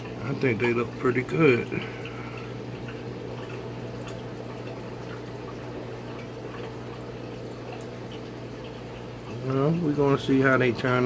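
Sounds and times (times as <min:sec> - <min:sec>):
low equipment hum: 0:00.0 - 0:11.0
small drips and ticks: 0:00.0 - 0:11.0
water trickling and splashing: 0:00.0 - 0:11.0.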